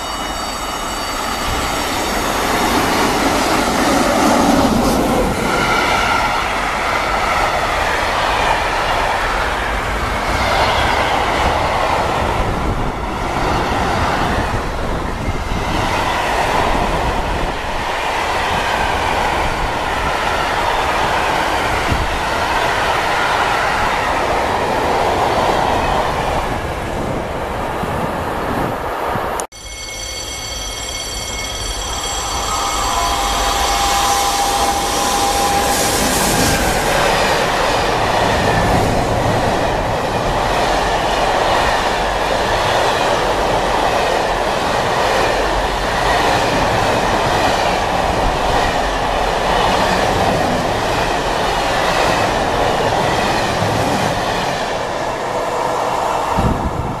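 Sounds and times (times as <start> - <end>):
electric locomotive whine: 0.0 - 27.2, 29.0 - 57.0
freight train wheels rumbling: 0.0 - 57.0.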